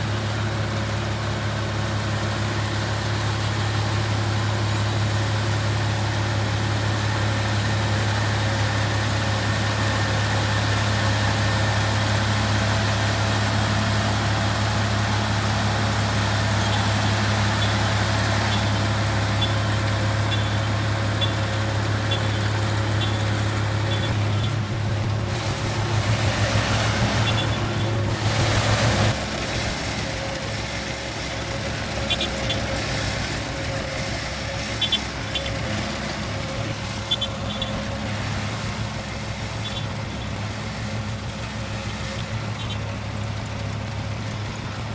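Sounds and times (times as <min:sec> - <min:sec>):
vehicle engine humming: 0:00.0 - 0:44.9.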